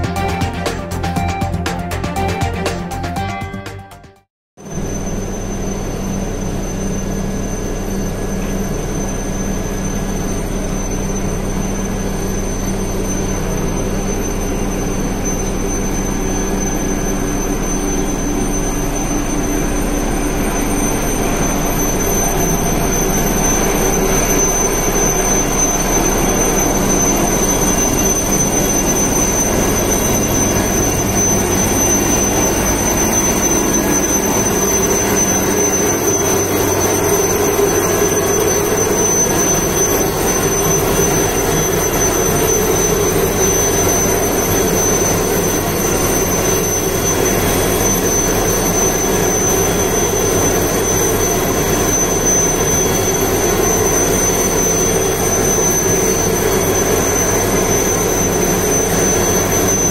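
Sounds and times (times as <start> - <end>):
helicopter turbine whine: 4.6 - 59.9.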